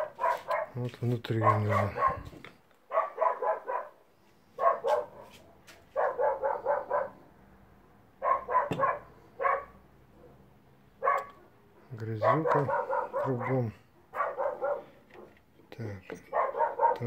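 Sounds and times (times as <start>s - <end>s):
dog barking: 0.0s - 4.0s, 4.6s - 7.3s, 8.2s - 10.4s, 11.0s - 15.3s, 16.3s - 17.0s.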